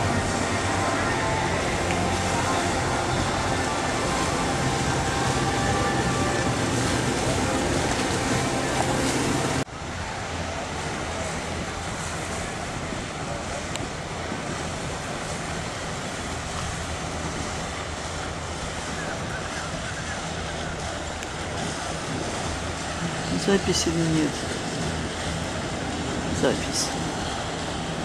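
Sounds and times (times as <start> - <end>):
motorboat engine hum: 0.0 - 28.0
moving water: 0.0 - 28.0
wind on microphone: 0.0 - 28.0.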